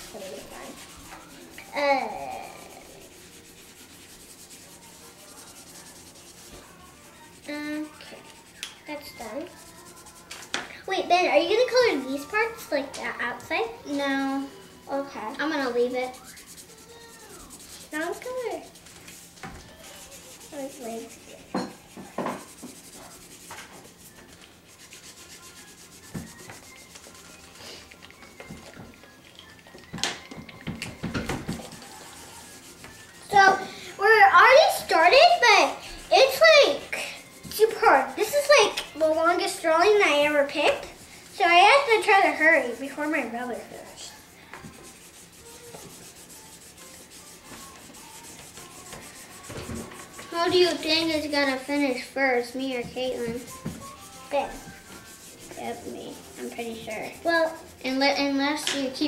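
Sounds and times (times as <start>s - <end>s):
markers scratching on paper: 0.0s - 10.6s, 15.3s - 29.6s, 30.3s - 59.0s.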